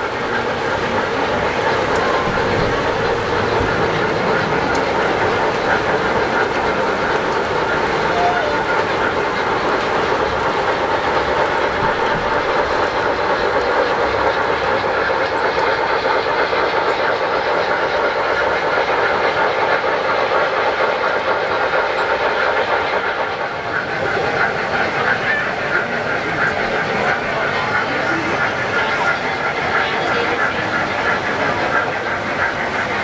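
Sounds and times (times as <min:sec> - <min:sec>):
model train running on track: 0:00.0 - 0:33.0.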